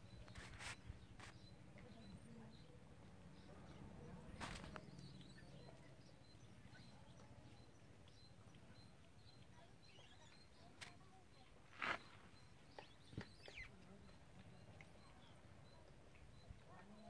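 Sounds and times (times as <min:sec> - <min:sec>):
faint high chirp: 0:00.0 - 0:17.0.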